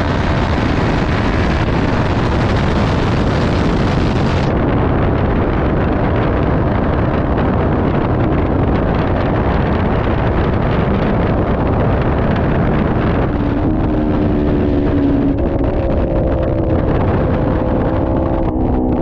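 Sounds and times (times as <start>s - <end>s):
motorcycle engine: 0.0s - 19.0s
wind noise over microphone: 0.0s - 19.0s.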